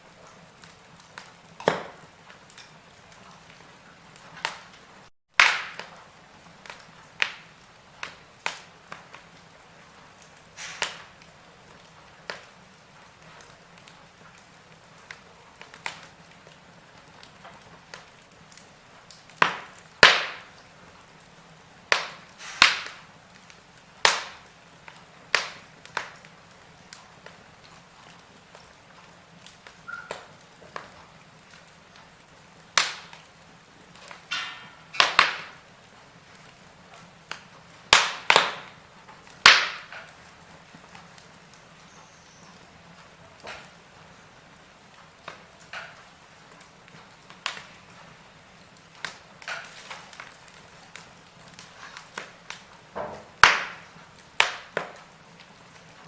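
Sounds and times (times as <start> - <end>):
faint steady hiss: 0.0 - 56.0
wood fire crackling: 0.0 - 56.0
sharp fire pops: 0.1 - 56.0.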